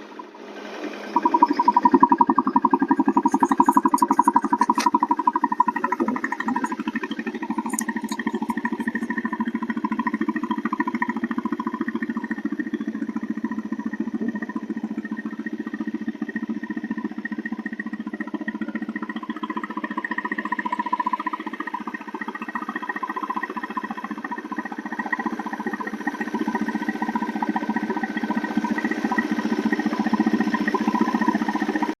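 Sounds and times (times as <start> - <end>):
motorcycle diesel engine knocking: 1.2 - 32.0.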